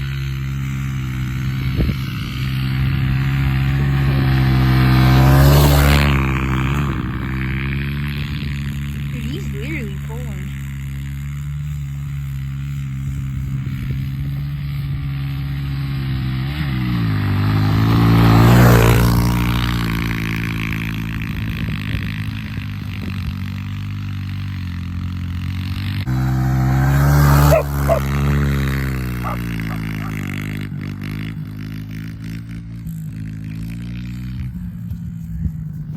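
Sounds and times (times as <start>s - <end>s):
small motorbike engine revving: 0.0s - 35.9s.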